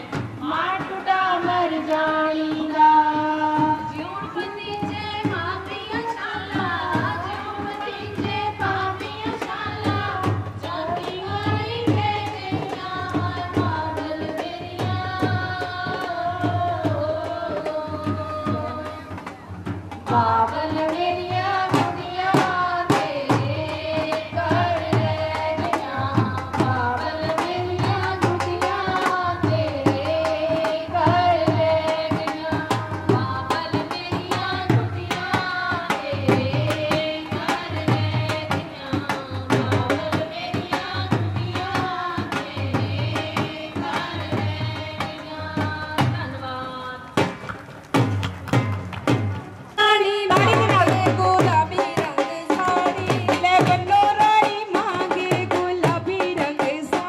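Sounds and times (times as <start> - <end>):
women singing into microphone: 0.0 - 19.4, 20.0 - 47.4, 49.8 - 57.0
drum beat: 2.4 - 46.4, 47.2 - 49.6, 50.2 - 57.0.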